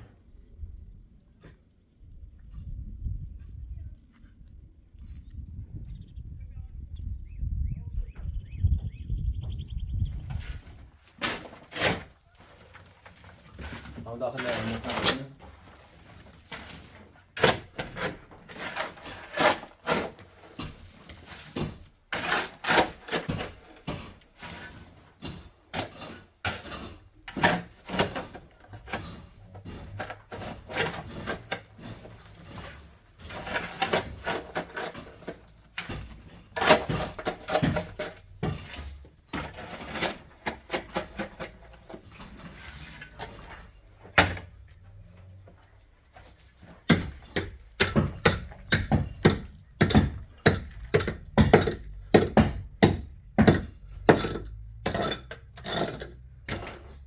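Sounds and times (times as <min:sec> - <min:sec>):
hard objects knocking and scraping: 0:10.2 - 0:57.0.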